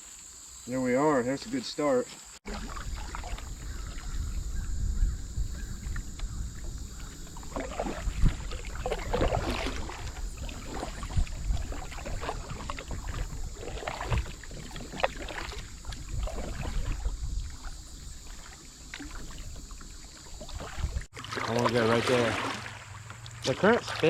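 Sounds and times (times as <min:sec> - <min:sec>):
paddle strokes splashing water: 0:02.4 - 0:24.0.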